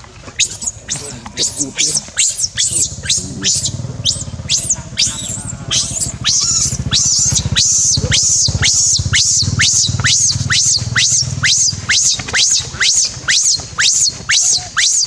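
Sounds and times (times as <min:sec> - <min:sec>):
low throbbing hum: 0:00.0 - 0:15.0
baby monkey squealing: 0:00.4 - 0:15.0.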